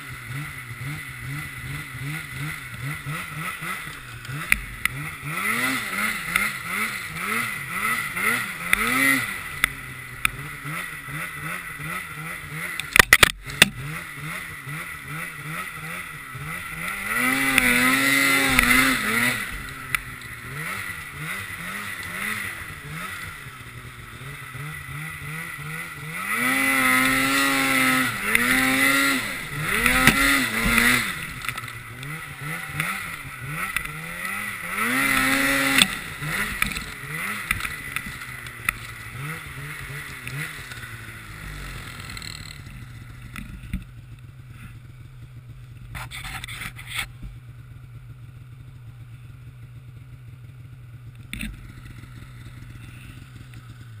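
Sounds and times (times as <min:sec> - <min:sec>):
snowmobile engine revving: 0:00.0 - 0:47.6.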